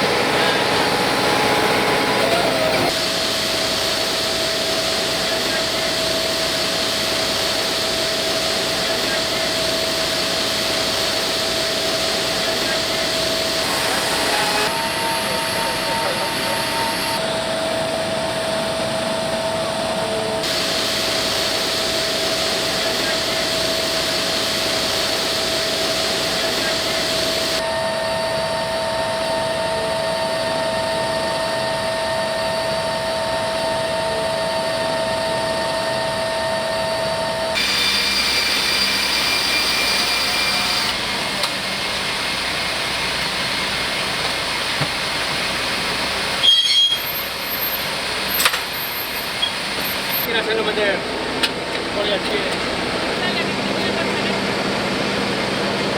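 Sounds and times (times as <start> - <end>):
jet engines running: 0.0 - 46.4, 47.2 - 55.9.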